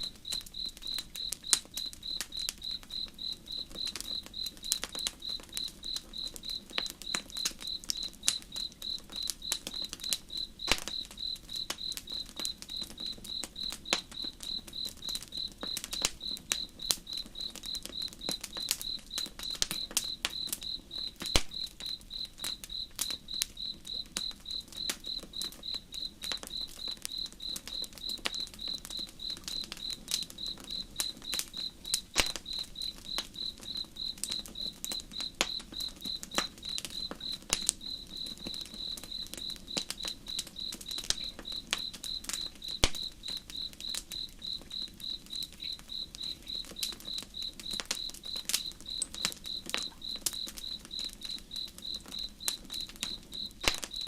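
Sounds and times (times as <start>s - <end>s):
campfire crackling and popping: 0.0s - 54.0s
cricket chirping: 0.0s - 54.0s.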